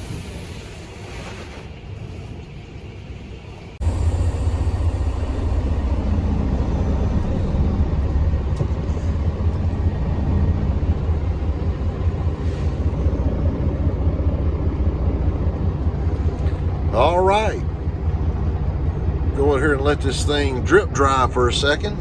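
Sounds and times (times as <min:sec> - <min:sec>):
truck engine rumble from cab: 0:01.8 - 0:22.0.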